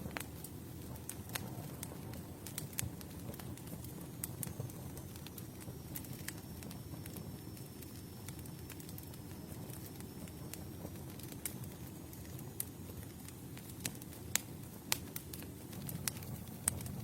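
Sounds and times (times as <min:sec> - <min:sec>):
campfire burning: 0:00.0 - 0:17.0.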